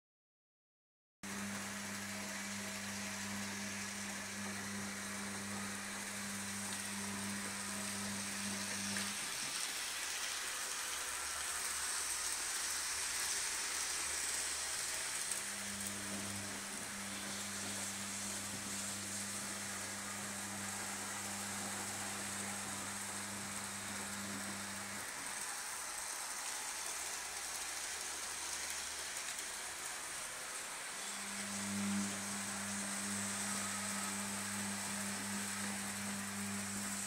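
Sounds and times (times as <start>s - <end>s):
low electrical hum: 1.3s - 37.0s
model train running on track: 1.3s - 37.0s.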